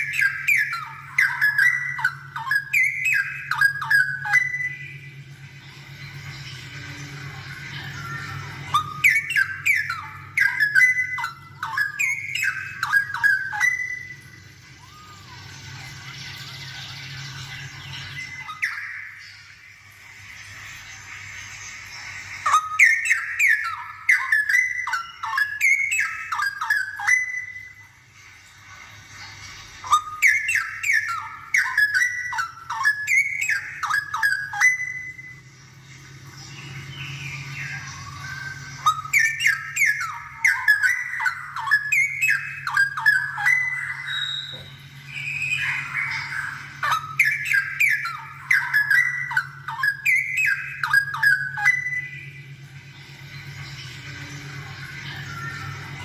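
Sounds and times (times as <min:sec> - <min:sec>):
bulbul singing whistled notes: 0:00.0 - 0:16.5, 0:17.1 - 0:20.6, 0:22.3 - 0:28.0, 0:29.8 - 0:35.5, 0:36.4 - 0:52.7.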